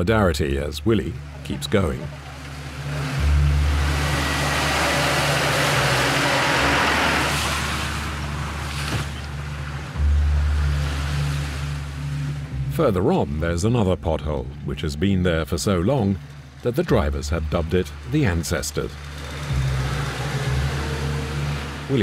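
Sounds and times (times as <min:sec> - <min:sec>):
vehicle engine labouring: 0:00.0 - 0:22.0
muddy water splashing under tyres: 0:01.1 - 0:13.6, 0:15.4 - 0:22.0.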